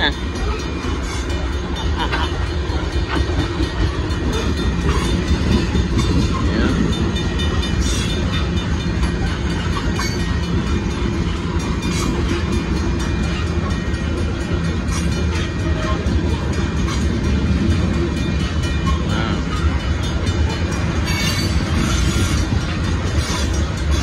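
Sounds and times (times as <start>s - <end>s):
freight train wheels rumbling: 0.0s - 24.0s
rail clicks: 0.0s - 24.0s.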